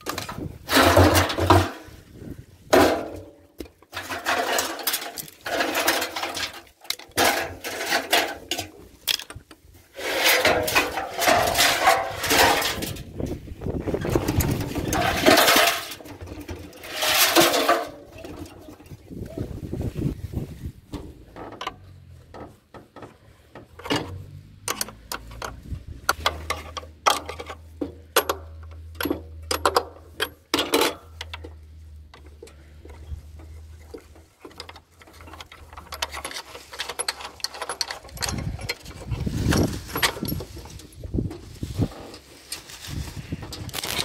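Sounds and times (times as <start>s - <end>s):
metallic clanks and rattles: 0.0s - 19.1s, 20.9s - 42.7s.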